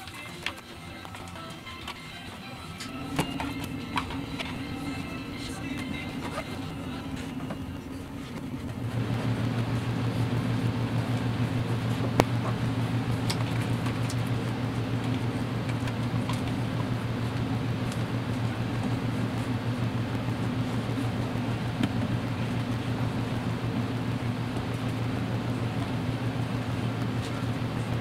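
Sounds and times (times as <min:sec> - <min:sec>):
fan-like machine hum: 0:00.0 - 0:28.0.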